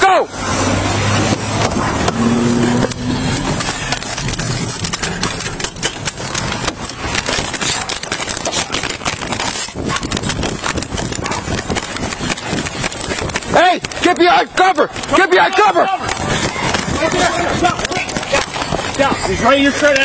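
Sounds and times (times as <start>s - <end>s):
steady rushing noise: 0.0s - 20.0s
footsteps and gear knocking: 1.2s - 20.0s.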